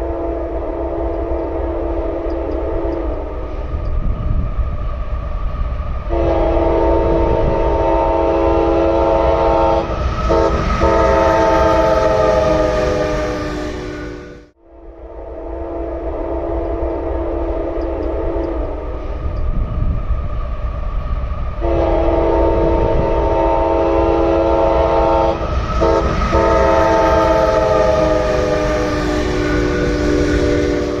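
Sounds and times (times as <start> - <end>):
locomotive air horn chord: 0.0 - 3.3, 6.1 - 18.8, 21.6 - 31.0
freight train rumble: 0.0 - 31.0.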